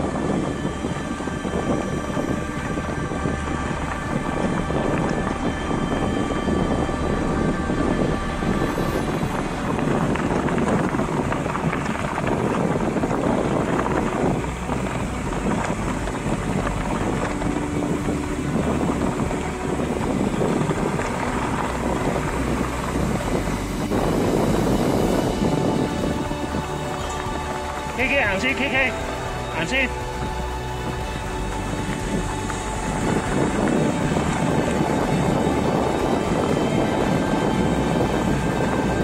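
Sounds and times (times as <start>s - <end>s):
road noise: 0.0s - 39.0s
vehicle engine rumble: 0.0s - 39.0s
wind noise: 0.0s - 39.0s.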